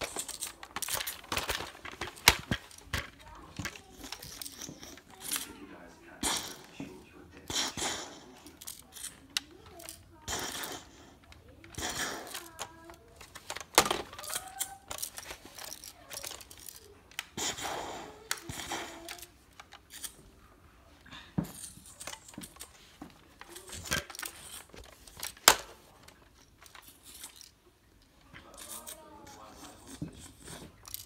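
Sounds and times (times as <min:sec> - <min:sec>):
plastic toy blaster rattling: 0:00.0 - 0:05.6, 0:07.8 - 0:20.2, 0:21.6 - 0:27.6, 0:28.5 - 0:31.0
sharp plastic clacks: 0:00.0 - 0:05.6, 0:07.4 - 0:20.2, 0:21.4 - 0:29.1.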